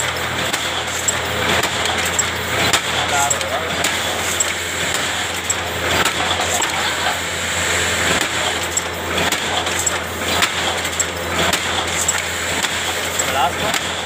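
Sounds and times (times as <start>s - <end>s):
sharp mechanical clicks: 0.0s - 6.8s, 8.1s - 14.0s
machinery humming: 0.0s - 14.0s.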